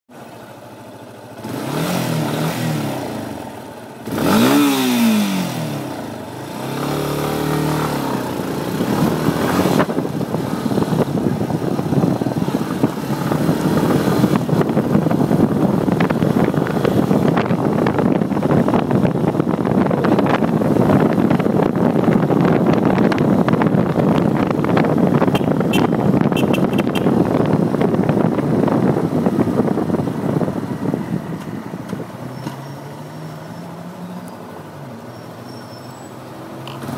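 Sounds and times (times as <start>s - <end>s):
motorcycle engine revving: 0.6s - 34.3s, 36.2s - 36.9s.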